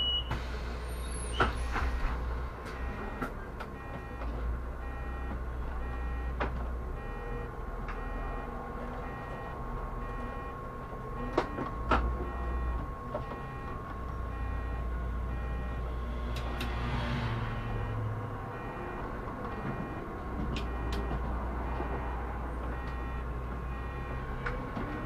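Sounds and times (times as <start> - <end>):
door warning beeps: 0.0 - 0.4, 1.3 - 16.0, 17.4 - 24.8
bus engine hum with whine: 0.0 - 25.0.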